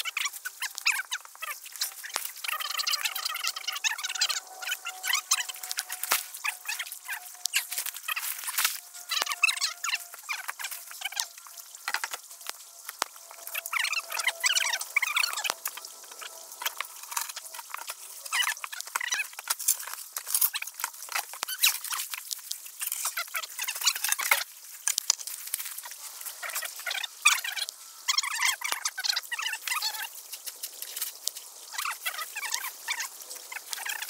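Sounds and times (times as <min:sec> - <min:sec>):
rustling in dry leaves: 0:00.0 - 0:34.0.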